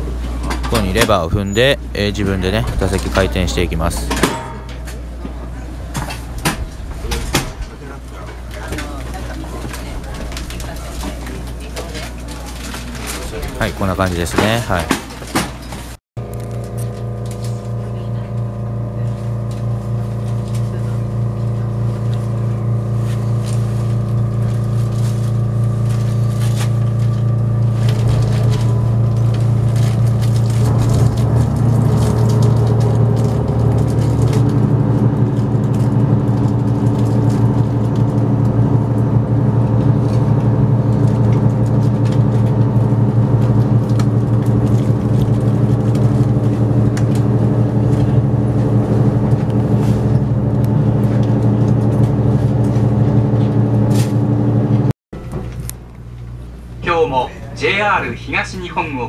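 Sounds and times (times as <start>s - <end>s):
train drive humming: 0.0s - 59.0s.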